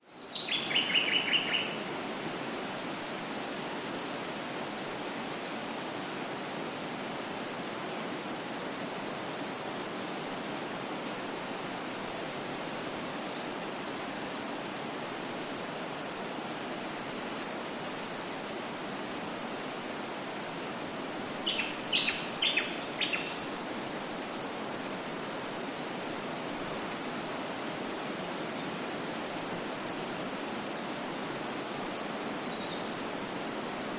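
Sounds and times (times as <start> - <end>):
background hiss: 0.0 - 33.9.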